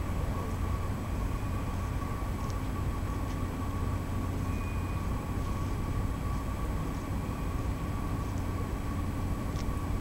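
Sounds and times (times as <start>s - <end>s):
faint steady whine: 0.0s - 10.0s
low outdoor rumble: 0.0s - 10.0s.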